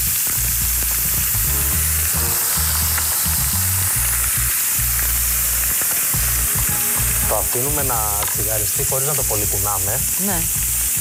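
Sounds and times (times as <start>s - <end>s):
background music with low bass: 0.0s - 11.0s
chicken sizzling in a frying pan: 0.0s - 11.0s.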